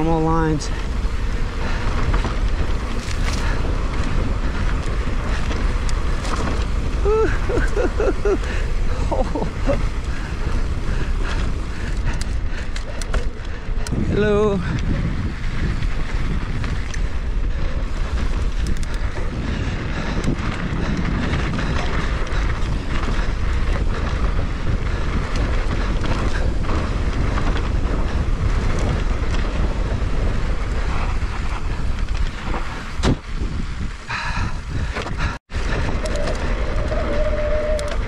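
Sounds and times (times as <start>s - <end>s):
bike clicks and rattles: 0.0s - 38.0s
tyre noise on dirt: 0.0s - 38.0s
wind buffeting microphone: 0.0s - 38.0s.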